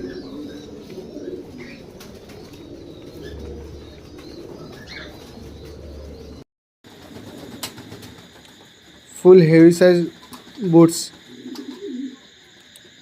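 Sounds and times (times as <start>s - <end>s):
pigeons cooing: 0.0s - 9.1s, 10.0s - 12.6s.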